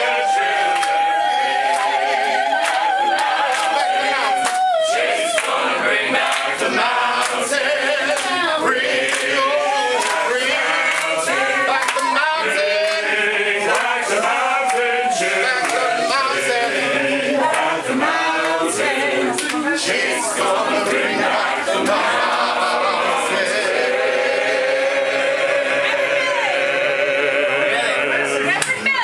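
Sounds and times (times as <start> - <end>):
choir singing: 0.0 - 29.0.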